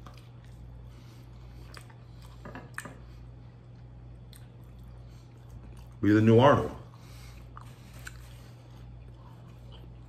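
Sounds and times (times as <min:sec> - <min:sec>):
soft chewing: 0:00.0 - 0:10.0
steady low hum: 0:00.0 - 0:10.0.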